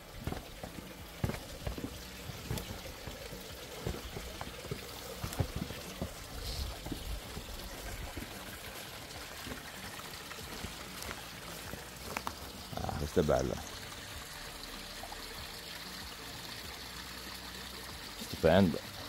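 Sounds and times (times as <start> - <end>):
water trickling and pouring: 0.0 - 19.0.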